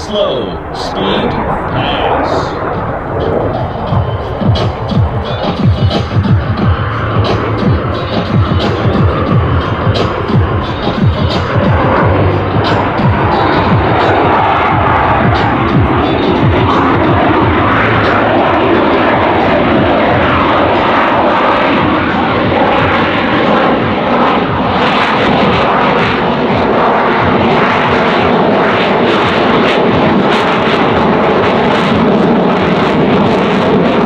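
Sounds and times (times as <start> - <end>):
jet engine roar in flight: 0.0 - 34.0
jet noise crackling: 0.0 - 34.0.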